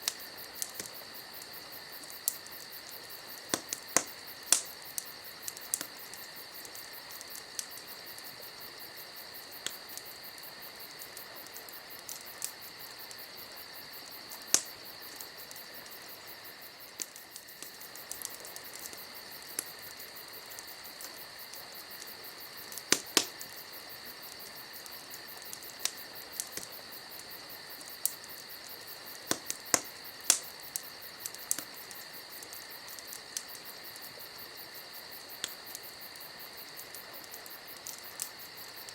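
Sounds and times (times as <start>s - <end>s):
campfire crackling and popping: 0.0s - 38.9s
night insects trilling: 0.0s - 38.9s.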